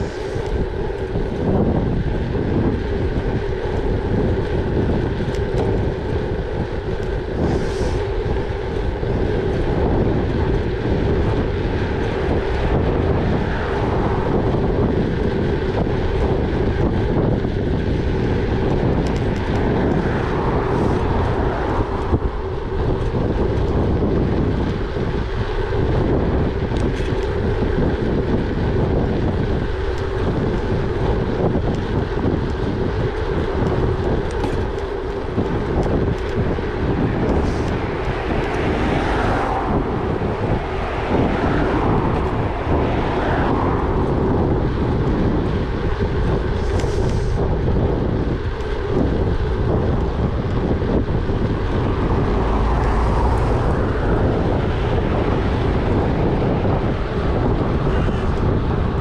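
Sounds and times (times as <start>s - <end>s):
bike tyres rolling on gravel: 0.0s - 59.0s
wind buffeting microphone: 0.0s - 59.0s.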